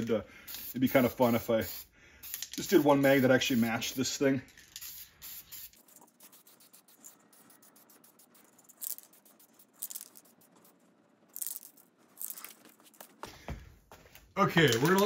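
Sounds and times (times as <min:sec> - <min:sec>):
spray can hissing: 0:00.4 - 0:13.0.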